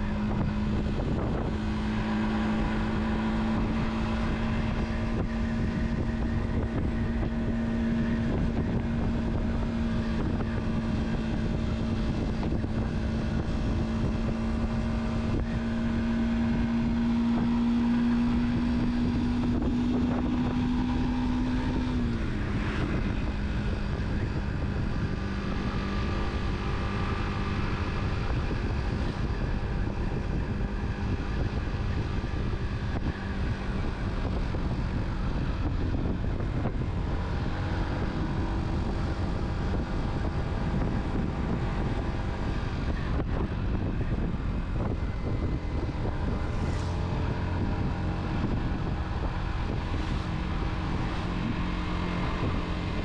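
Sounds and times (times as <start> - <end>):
car engine hum: 0.0 - 53.0
road and wind rumble: 0.0 - 53.0.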